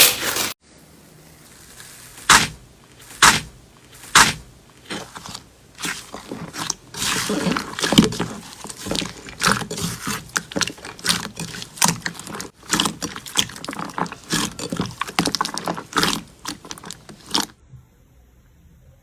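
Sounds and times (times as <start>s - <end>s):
slime squeezed by hand crackling: 1.5s - 17.5s.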